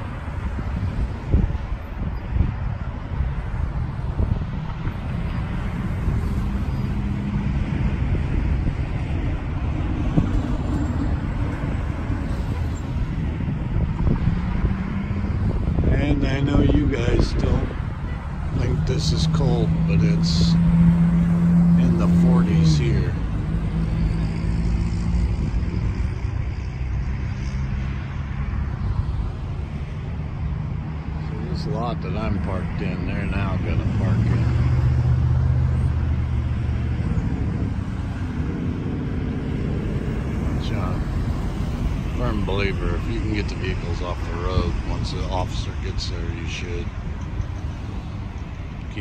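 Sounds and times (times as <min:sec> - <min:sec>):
cars driving past: 0:00.0 - 0:49.0.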